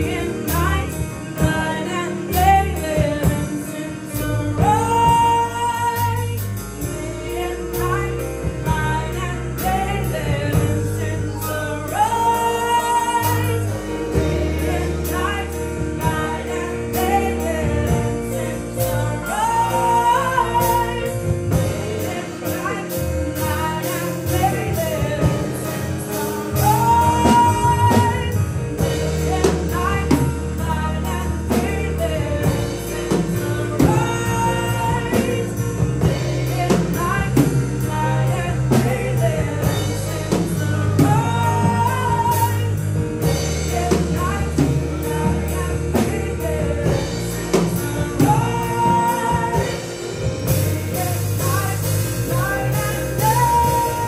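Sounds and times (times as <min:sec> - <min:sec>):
bass notes: 0:00.0 - 0:54.0
drums keeping a beat: 0:00.0 - 0:54.0
worship song singing: 0:00.0 - 0:54.0.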